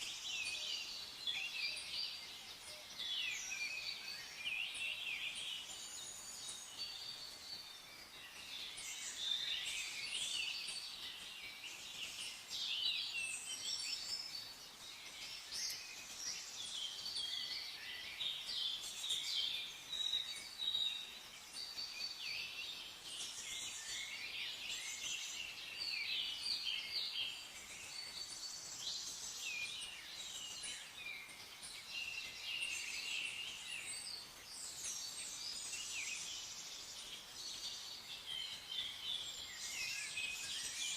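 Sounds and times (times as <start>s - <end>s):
faint steady hiss: 0.0s - 40.9s
songbirds chirping and trilling: 0.0s - 40.9s.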